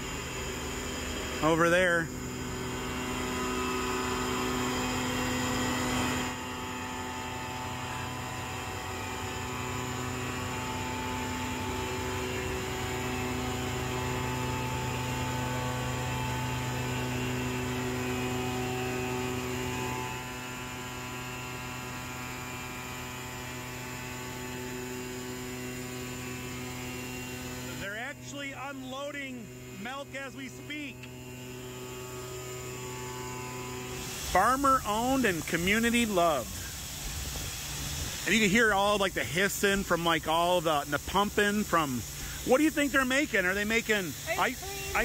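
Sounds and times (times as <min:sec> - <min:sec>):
machinery and pumps humming: 0:00.0 - 0:45.0.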